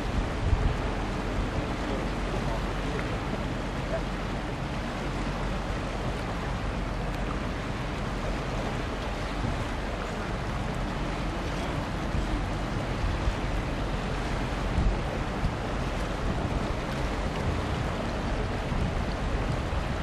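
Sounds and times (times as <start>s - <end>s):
river water: 0.0s - 20.0s
wind: 0.0s - 20.0s
wind rumbling on microphone: 0.0s - 20.0s.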